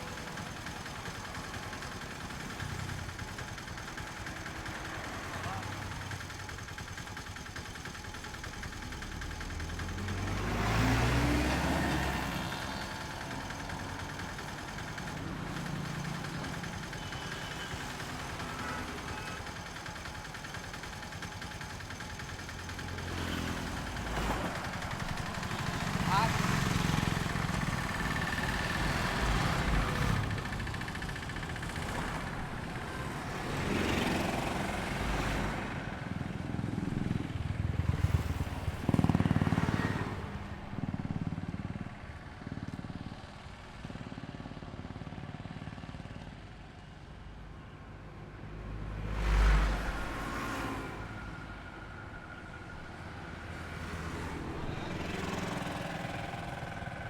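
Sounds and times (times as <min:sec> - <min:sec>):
highway vehicles passing: 0:00.0 - 0:07.3, 0:08.8 - 0:46.6, 0:47.2 - 0:57.0.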